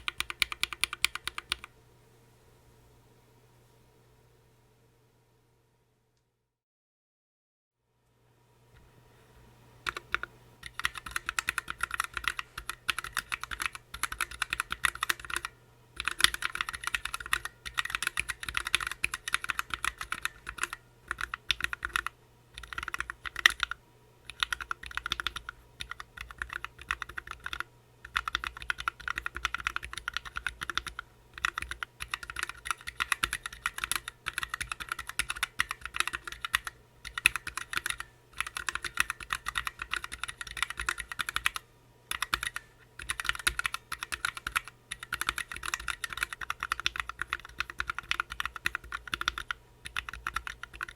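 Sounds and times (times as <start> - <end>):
mechanical keyboard typing: 0.0 - 1.7, 9.8 - 50.9.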